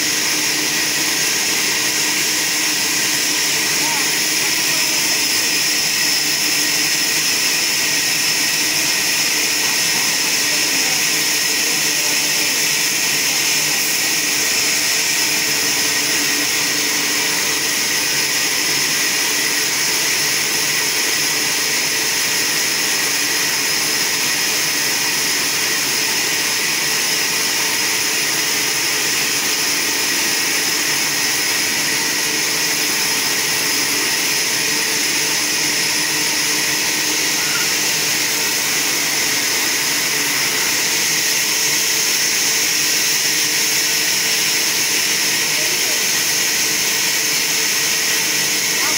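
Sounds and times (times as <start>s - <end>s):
band sawmill sawing log: 0.0s - 48.9s.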